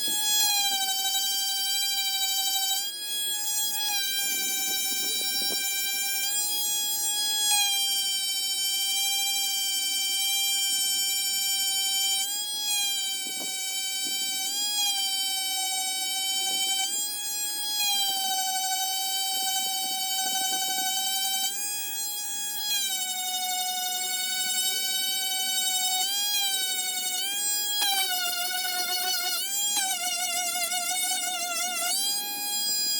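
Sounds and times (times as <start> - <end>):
power sander whine: 0.0 - 32.9.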